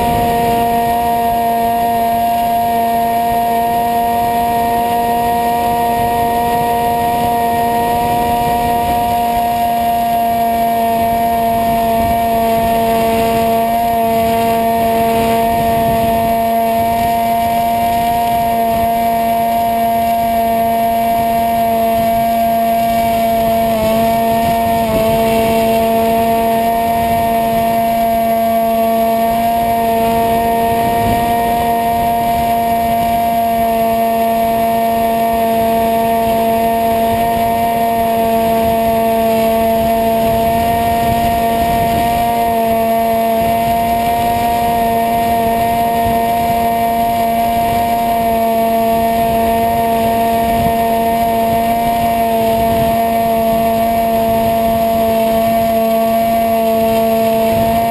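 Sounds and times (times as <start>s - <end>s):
electric motor and propeller whine: 0.0s - 57.9s.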